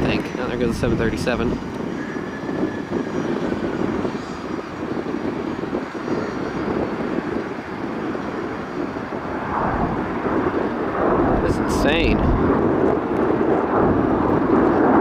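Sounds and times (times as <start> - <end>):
jet engines rumbling with whine: 0.0 - 15.0.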